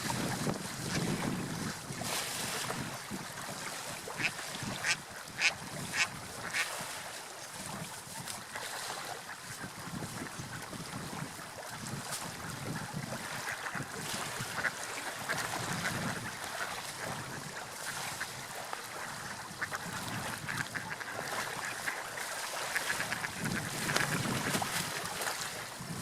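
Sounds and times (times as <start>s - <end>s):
water lapping and splashing: 0.0s - 26.0s.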